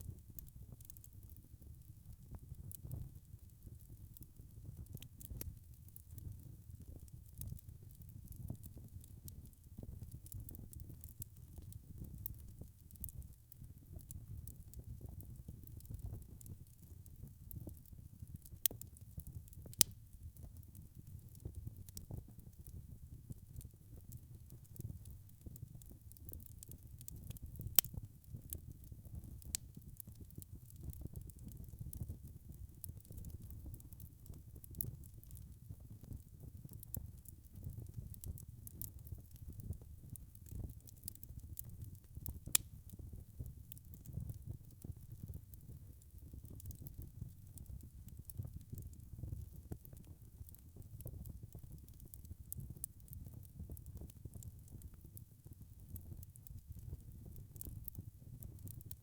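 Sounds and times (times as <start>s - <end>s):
log fire crackling: 0.1s - 59.0s
sharp snaps of fire: 0.2s - 1.8s, 4.9s - 15.1s, 15.7s - 35.5s, 36.1s - 43.1s, 46.0s - 49.0s, 49.7s - 54.6s, 55.5s - 59.0s.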